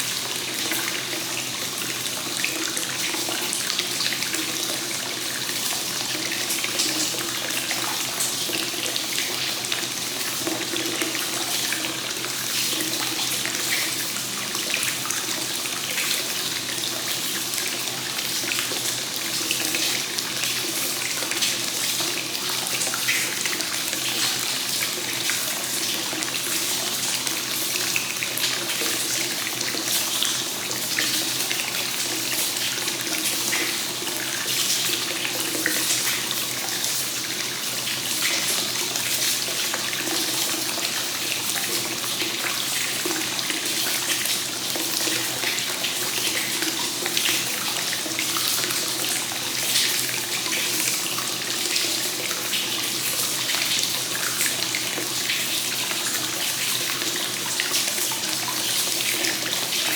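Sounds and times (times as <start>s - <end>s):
water pouring into a bath: 0.0s - 59.9s.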